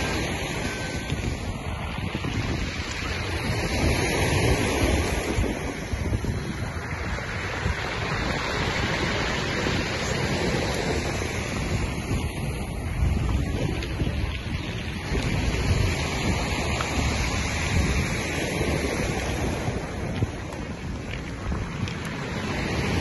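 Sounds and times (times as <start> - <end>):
sea surf: 0.0 - 23.0
wind on microphone: 0.0 - 23.0.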